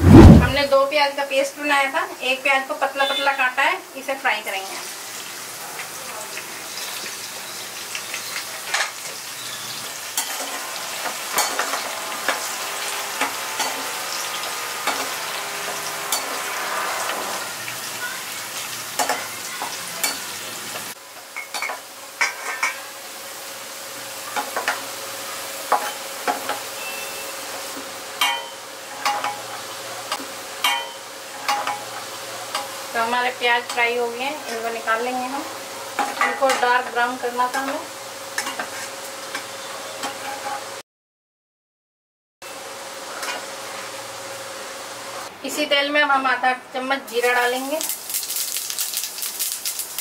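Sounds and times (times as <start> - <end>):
onions sizzling in hot oil: 0.1 - 40.8, 42.5 - 45.3, 47.1 - 50.0.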